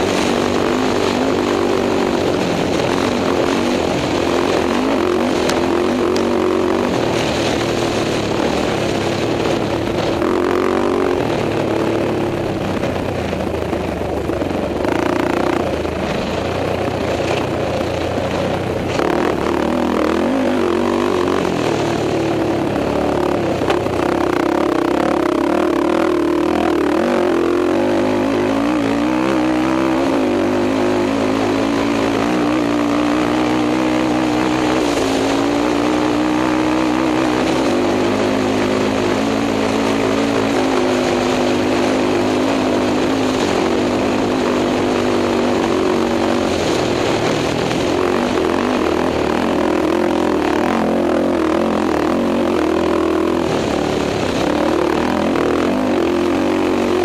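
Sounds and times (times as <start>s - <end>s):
quad engine revving: 0.0s - 57.0s
wind noise on microphone: 0.0s - 57.0s.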